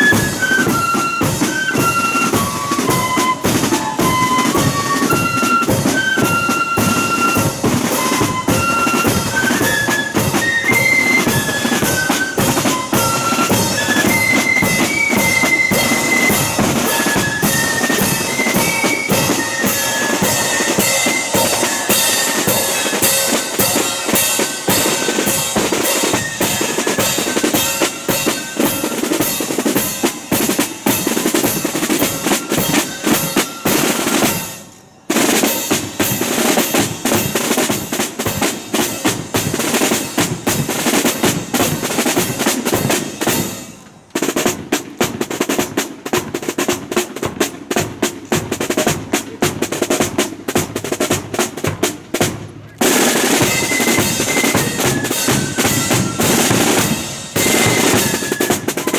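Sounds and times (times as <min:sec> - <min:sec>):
flutes playing a tune: 0:00.0 - 0:44.1, 0:52.7 - 0:58.9
cymbals: 0:00.0 - 0:58.9
side drum rolls: 0:00.0 - 0:58.9.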